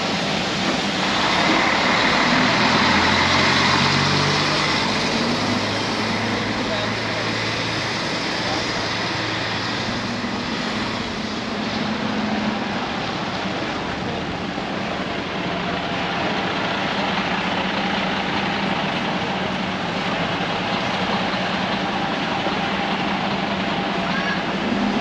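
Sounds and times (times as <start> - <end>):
vehicle running noise: 0.0 - 25.0.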